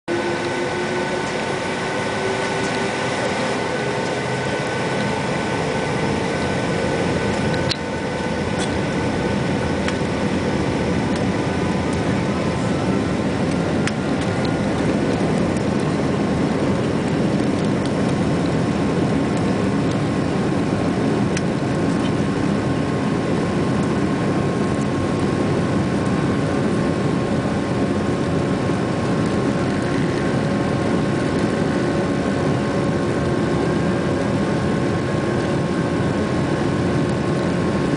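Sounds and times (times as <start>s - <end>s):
jet engine cabin rush: 0.1s - 37.9s.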